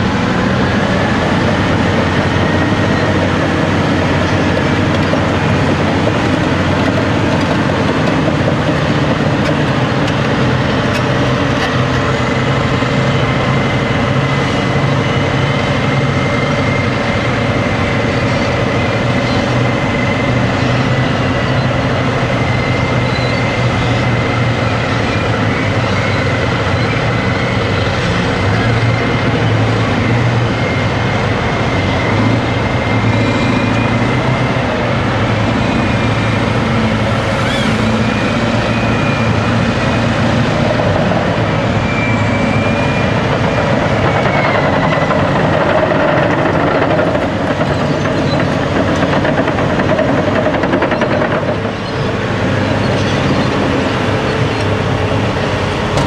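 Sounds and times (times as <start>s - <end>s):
heavy diesel engines under load: 0.0s - 56.0s.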